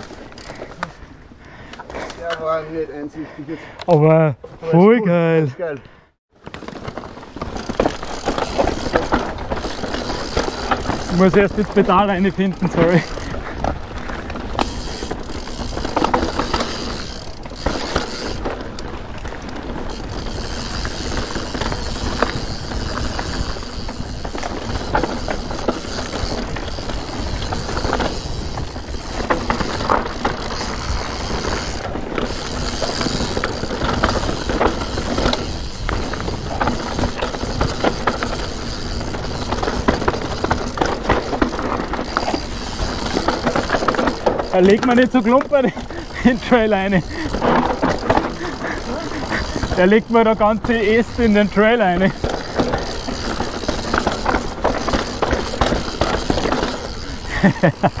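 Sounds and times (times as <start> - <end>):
bike tyres rolling over dirt: 0.0 - 2.9, 6.3 - 58.0
bike rattling and clattering: 0.0 - 3.1, 6.3 - 58.0.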